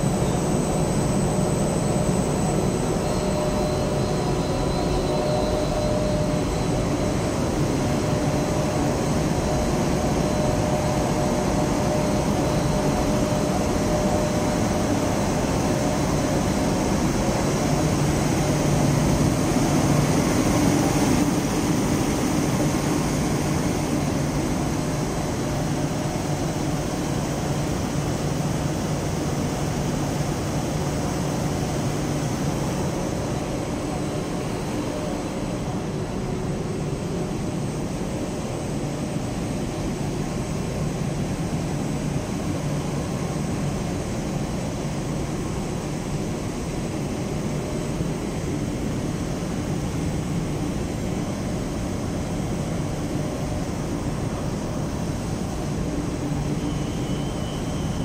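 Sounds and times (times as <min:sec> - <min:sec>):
textile machines droning: 0:00.0 - 0:58.0.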